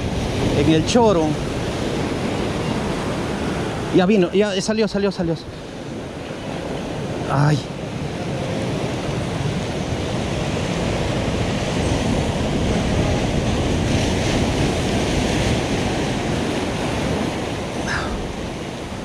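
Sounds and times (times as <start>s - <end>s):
ocean surf breaking on rocks: 0.0s - 19.0s.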